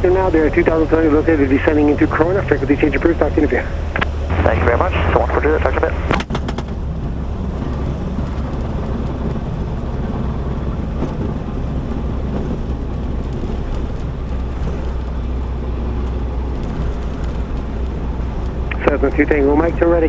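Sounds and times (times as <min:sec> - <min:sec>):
piston aircraft engine droning: 0:00.0 - 0:20.0.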